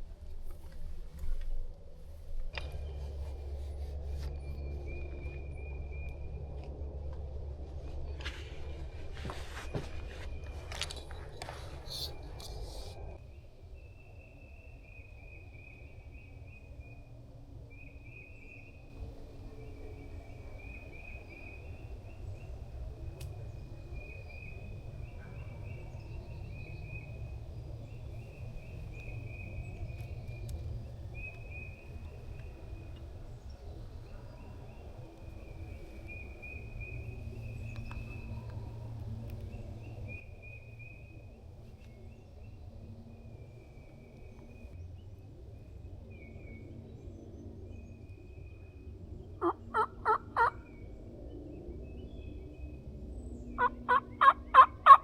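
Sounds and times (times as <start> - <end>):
steady low rumble: 0.0 - 54.9.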